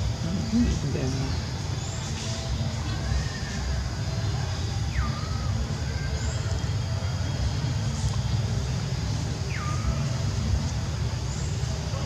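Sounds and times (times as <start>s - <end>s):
low outdoor rumble: 0.0s - 12.0s
thin whistled call: 0.4s - 8.5s, 9.1s - 11.6s.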